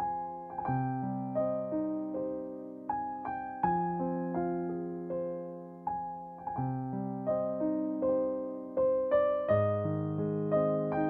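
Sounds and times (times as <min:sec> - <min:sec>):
slow soft piano music: 0:00.0 - 0:11.0.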